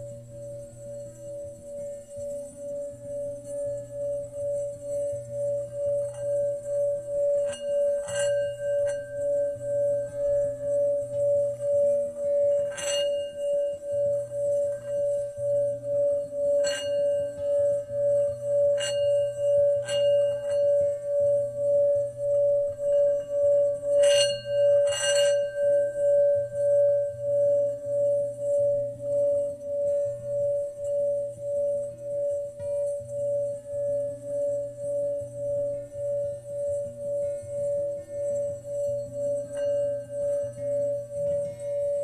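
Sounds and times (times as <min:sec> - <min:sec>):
singing bowl ringing: 0:00.0 - 0:42.0.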